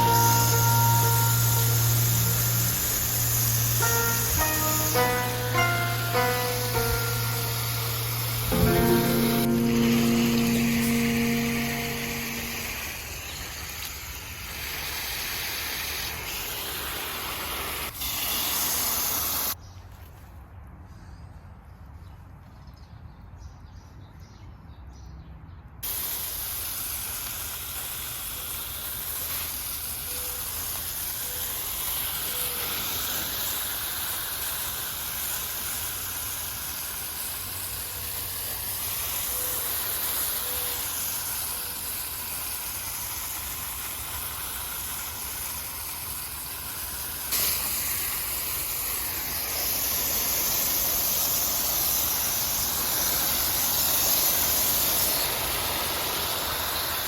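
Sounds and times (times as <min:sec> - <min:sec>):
garden hose spraying water: 0:00.0 - 0:19.6, 0:25.8 - 0:57.0.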